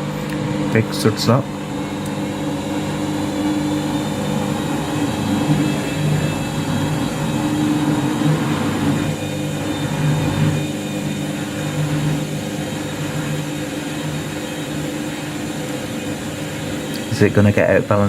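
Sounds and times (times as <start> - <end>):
washing machine spinning: 0.0 - 18.0.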